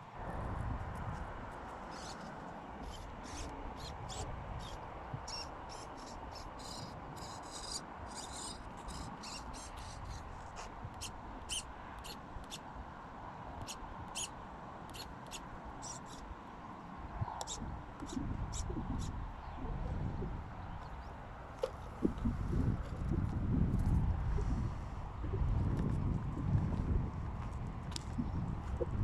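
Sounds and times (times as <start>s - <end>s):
wind buffeting microphone: 0.0s - 14.3s, 14.9s - 29.0s.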